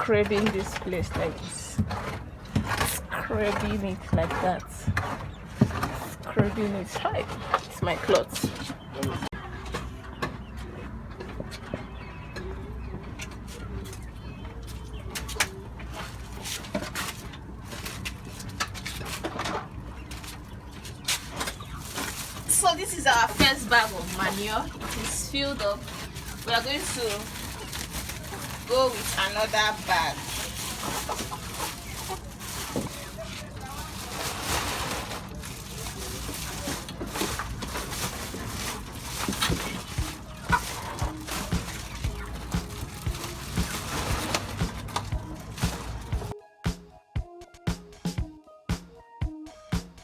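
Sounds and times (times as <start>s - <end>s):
chickens clucking: 0.0s - 46.4s
litter scraping and rustling: 0.0s - 46.4s.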